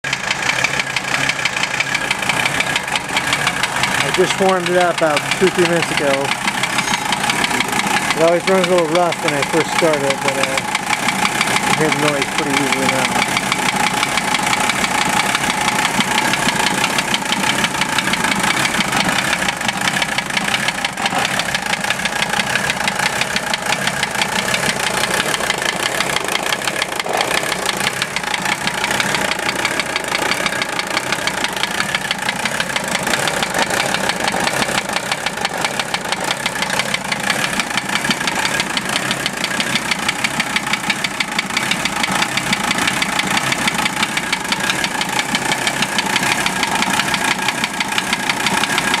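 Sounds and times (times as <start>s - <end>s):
diesel engine idling: 0.0s - 49.0s
fast engine knock: 0.0s - 49.0s.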